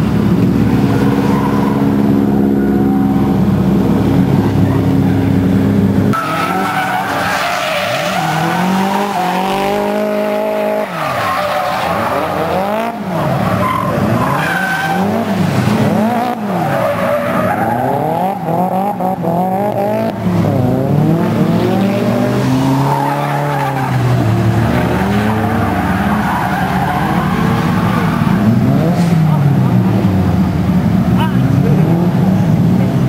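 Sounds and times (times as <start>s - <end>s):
car engine revving: 0.0s - 33.0s
tyres skidding and squealing: 0.0s - 33.0s.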